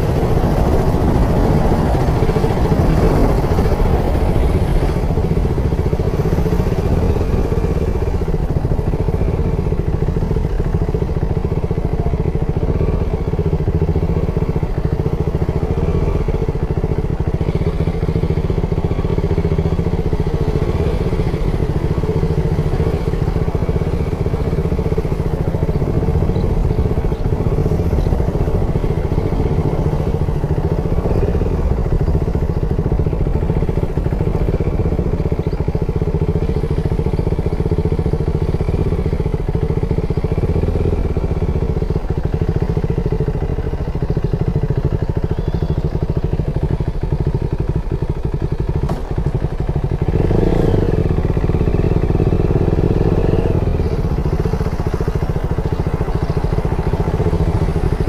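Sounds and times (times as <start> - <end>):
road noise: 0.0 - 58.0
vehicle engine: 0.0 - 58.0.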